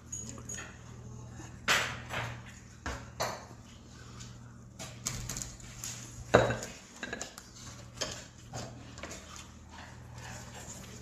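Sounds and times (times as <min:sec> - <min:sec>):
utensils clinking against dishes: 0:00.0 - 0:03.6, 0:04.9 - 0:11.0.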